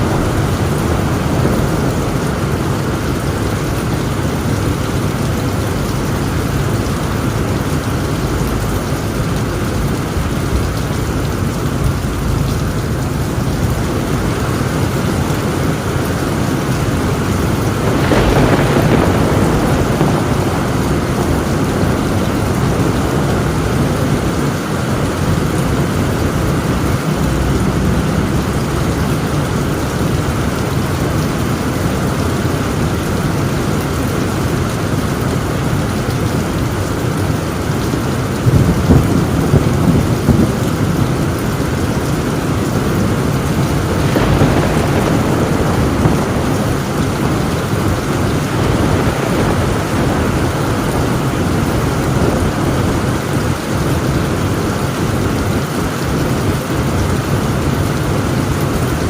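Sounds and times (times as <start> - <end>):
heavy rain on a tin roof: 0.0 - 59.0
thunder rumbling: 0.0 - 59.0.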